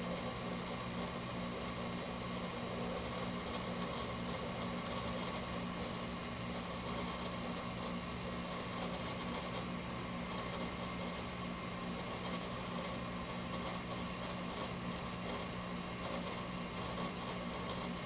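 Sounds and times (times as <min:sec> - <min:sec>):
air conditioner compressor humming: 0:00.0 - 0:18.0
air conditioner fan rushing: 0:00.0 - 0:18.0.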